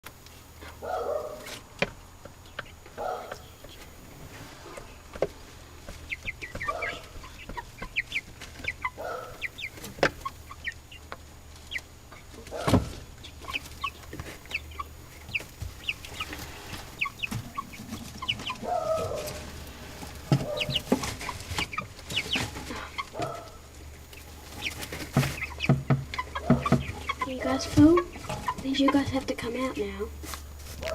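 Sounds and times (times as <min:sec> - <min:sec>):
young chickens clucking and cheeping: 0:00.1 - 0:30.9.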